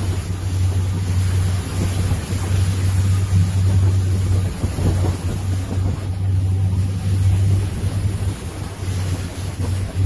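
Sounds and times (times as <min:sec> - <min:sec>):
motorboat engine drone: 0:00.0 - 0:10.0
wind buffeting microphone: 0:00.0 - 0:10.0.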